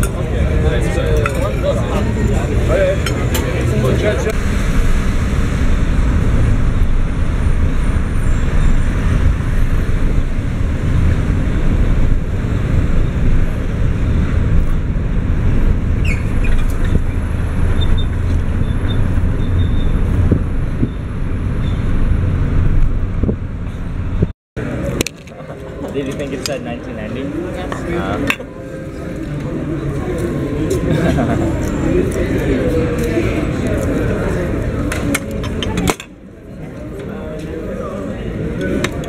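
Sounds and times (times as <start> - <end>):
car cabin road noise: 0.0 - 39.0.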